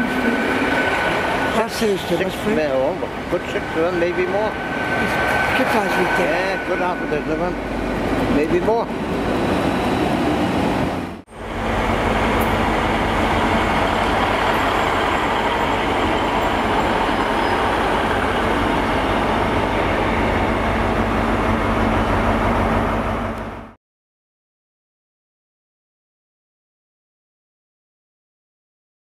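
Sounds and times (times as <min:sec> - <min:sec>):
wheel and rail noise: 0:00.0 - 0:23.7
diesel engine drone: 0:00.0 - 0:23.8
train moving past: 0:00.0 - 0:23.8.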